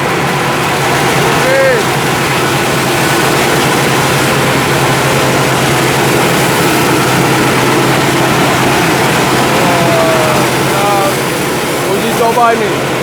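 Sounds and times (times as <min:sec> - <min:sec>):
constant low hum: 0:00.0 - 0:13.0
grinding machine whirring: 0:00.0 - 0:13.0.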